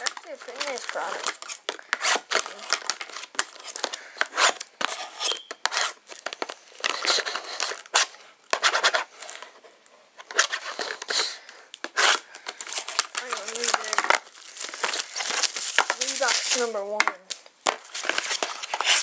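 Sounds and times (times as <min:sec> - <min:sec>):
plastic wrapping crinkling and tearing: 0:00.0 - 0:09.6, 0:10.2 - 0:19.0.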